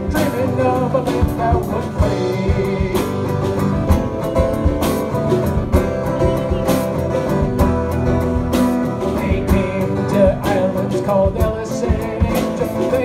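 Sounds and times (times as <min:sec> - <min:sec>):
banjo: 0:00.0 - 0:13.0
plucked acoustic guitar: 0:00.0 - 0:13.0
steady beat: 0:00.0 - 0:13.0.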